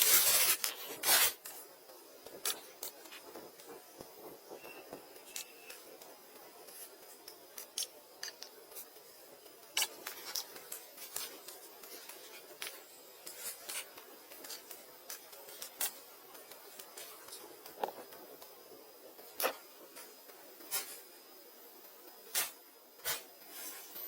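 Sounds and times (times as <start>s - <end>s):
low hiss: 0.0s - 24.0s.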